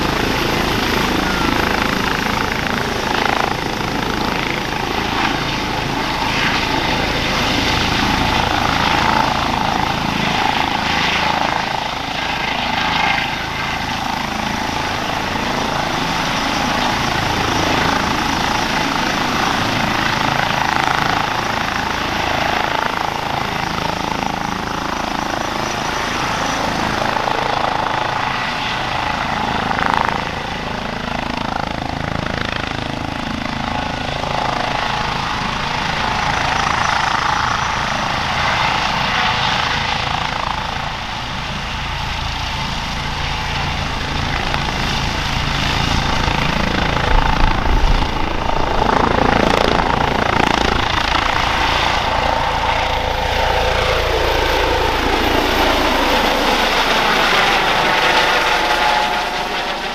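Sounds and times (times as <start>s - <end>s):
helicopter turbine and rotor noise: 0.0s - 59.9s.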